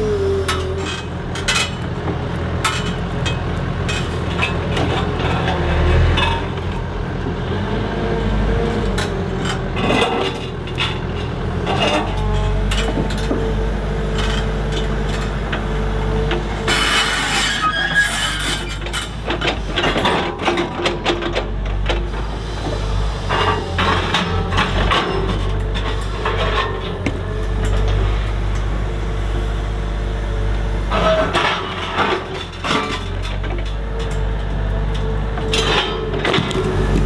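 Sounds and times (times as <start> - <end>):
excavator running: 0.0 - 37.0.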